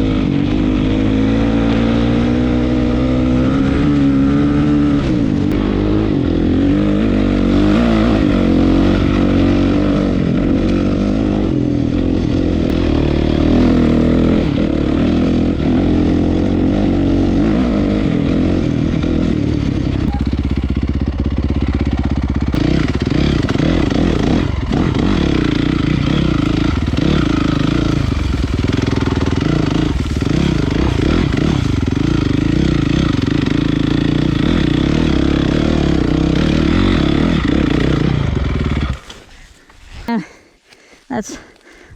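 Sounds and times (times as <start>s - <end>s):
dirt bike engine revving: 0.0s - 39.4s.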